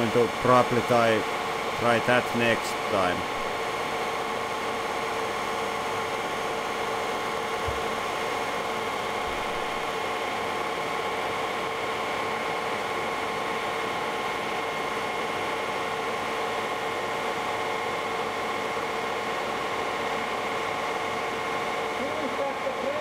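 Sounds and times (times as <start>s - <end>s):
lathe mechanical whine: 0.0s - 23.0s.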